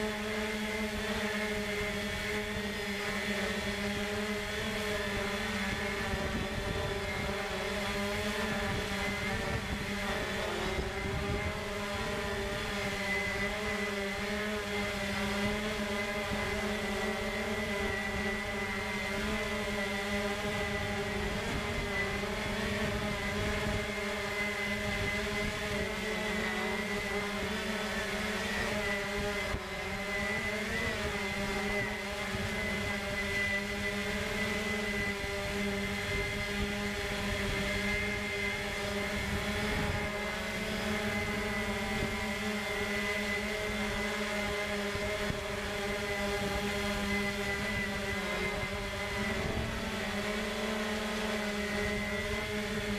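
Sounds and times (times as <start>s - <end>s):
drone propellers buzzing: 0.0s - 52.9s.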